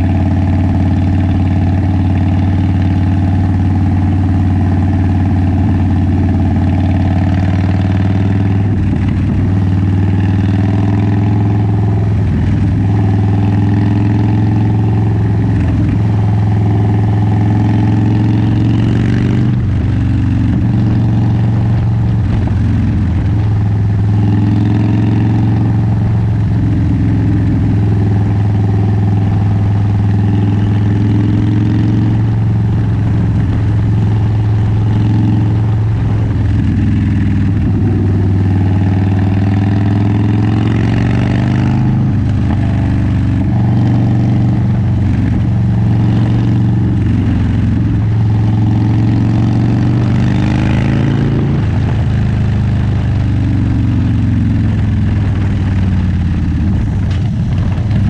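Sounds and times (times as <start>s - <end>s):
motorcycle engine and exhaust: 0.0s - 58.0s.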